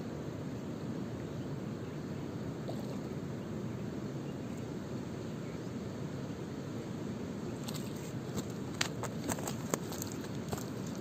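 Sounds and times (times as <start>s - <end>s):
low outdoor rushing noise: 0.0s - 11.0s.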